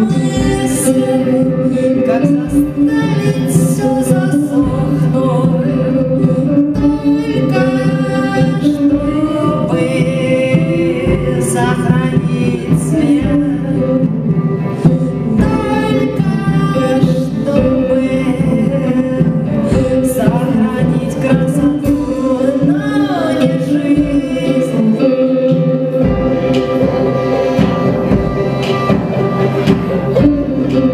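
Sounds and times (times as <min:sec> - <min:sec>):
live band playing: 0:00.0 - 0:30.9
person singing: 0:00.0 - 0:30.9.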